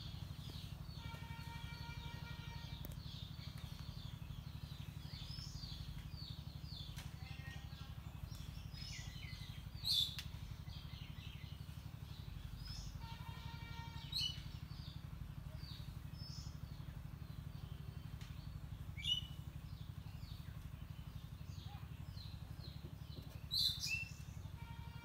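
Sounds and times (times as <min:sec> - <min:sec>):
birds chirping and whistling: 0:00.0 - 0:24.9
steady low hum: 0:00.0 - 0:25.0.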